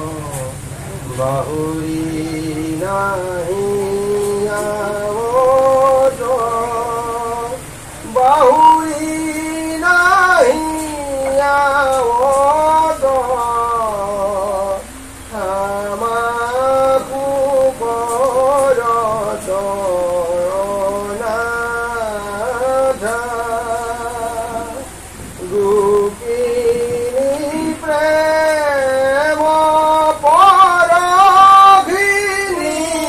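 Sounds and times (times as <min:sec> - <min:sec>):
person chanting unaccompanied: 0:00.0 - 0:33.0.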